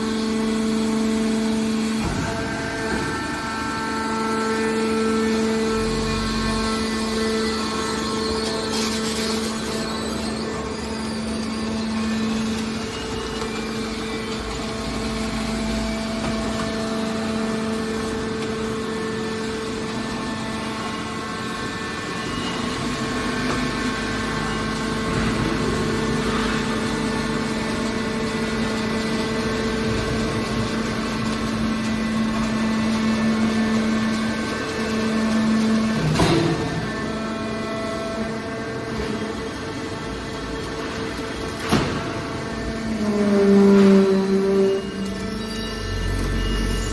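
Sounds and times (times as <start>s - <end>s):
hydraulic machine humming: 0.0s - 46.9s.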